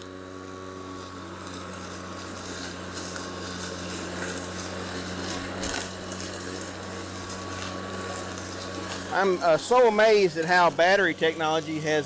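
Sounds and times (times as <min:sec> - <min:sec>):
electric lawn mower humming: 0:00.0 - 0:12.0
grass being cut: 0:00.0 - 0:12.0.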